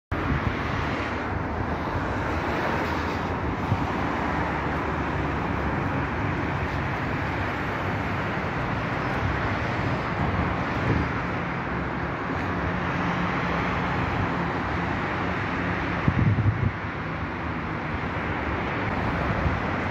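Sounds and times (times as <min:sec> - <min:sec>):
road traffic hiss and rumble: 0:00.1 - 0:19.9.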